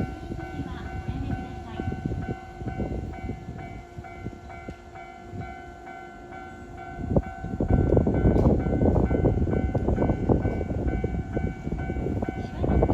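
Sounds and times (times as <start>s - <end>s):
electric train rumble: 0.0s - 12.9s
level crossing warning bell: 0.0s - 12.9s.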